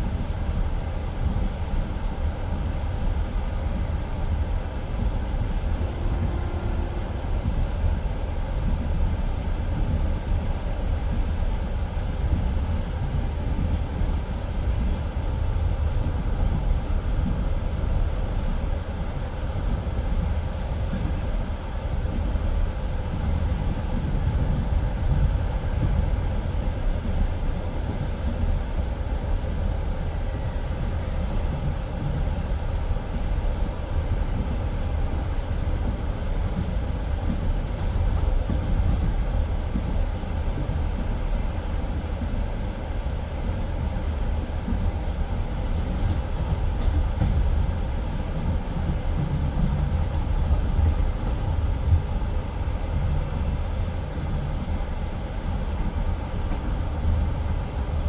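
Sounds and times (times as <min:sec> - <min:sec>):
train carriage rumbling on rails: 0:00.0 - 0:58.0.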